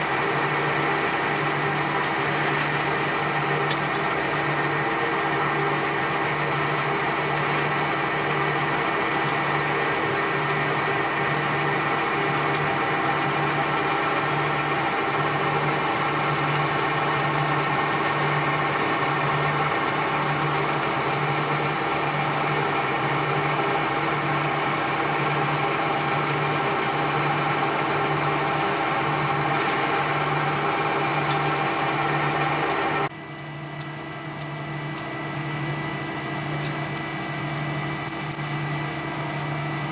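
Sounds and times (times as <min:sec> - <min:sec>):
machinery whining: 0:00.0 - 0:39.5.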